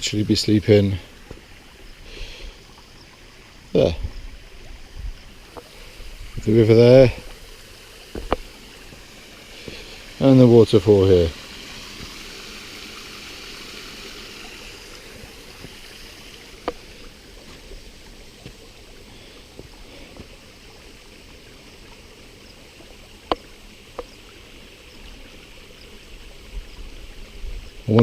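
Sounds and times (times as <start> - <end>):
river and waterfall rushing: 0.0 - 25.6.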